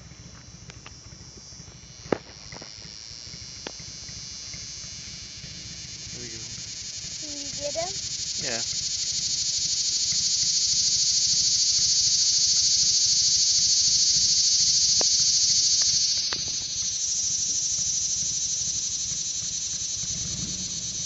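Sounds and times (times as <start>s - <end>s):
cicada buzzing: 0.0s - 21.0s.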